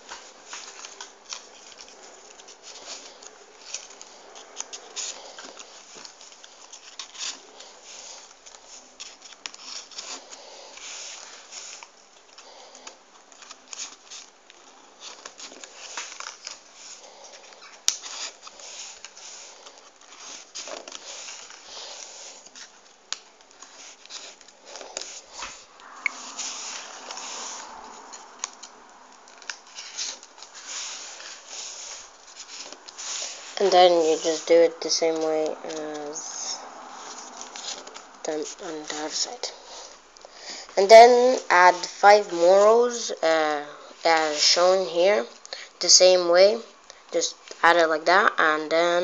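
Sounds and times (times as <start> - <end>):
paper rustling and crinkling: 0.0 - 43.2.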